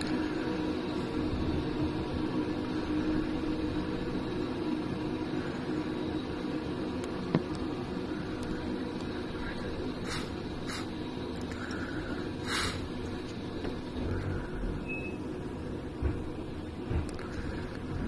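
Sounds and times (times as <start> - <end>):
train rolling hum: 0.0 - 18.0.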